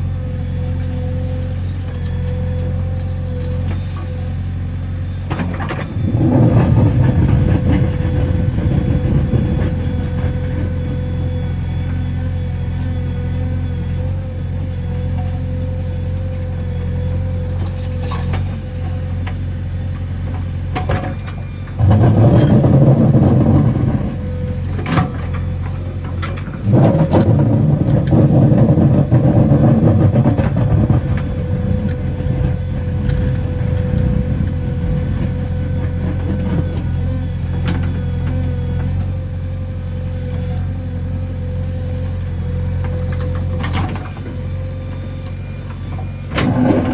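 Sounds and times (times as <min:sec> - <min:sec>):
diesel engine running: 0:00.0 - 0:46.9
steady whine: 0:00.0 - 0:46.9.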